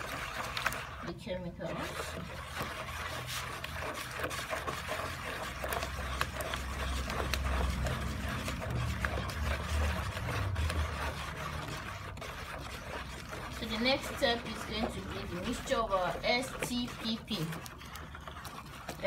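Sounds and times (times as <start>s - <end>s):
liquid swishing and churning: 0.0s - 19.0s.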